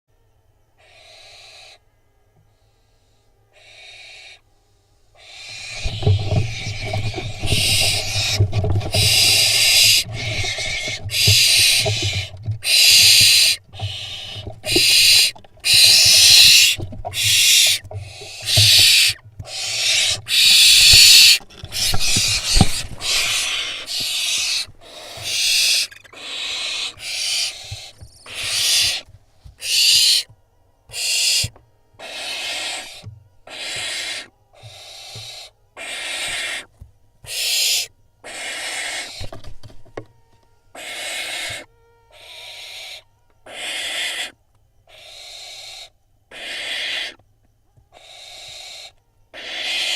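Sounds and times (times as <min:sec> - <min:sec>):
owl fledglings hissing screeches: 0:00.8 - 0:01.8, 0:02.5 - 0:04.5, 0:05.2 - 0:30.3, 0:30.9 - 0:36.7, 0:37.3 - 0:39.4, 0:40.7 - 0:47.2, 0:47.9 - 0:49.9.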